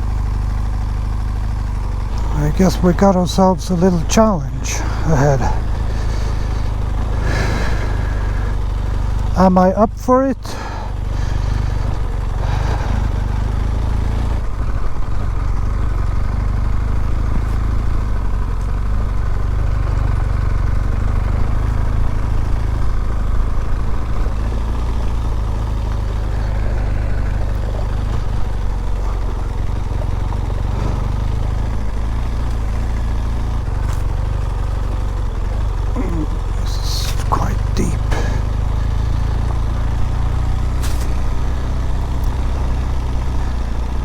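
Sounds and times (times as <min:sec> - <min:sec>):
motorcycle engine rumbling: 0:00.0 - 0:44.0.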